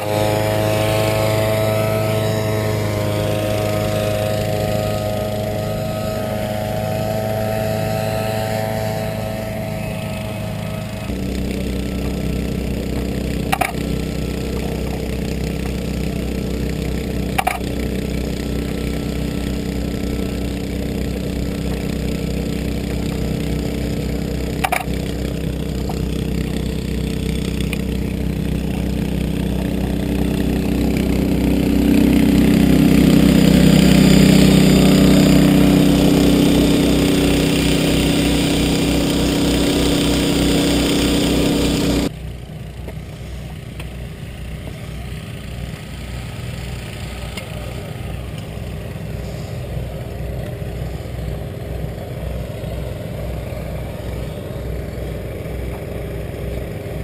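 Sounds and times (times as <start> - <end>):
engine running: 0.0 - 57.0
quieter engine pulsing rumble: 0.0 - 57.0.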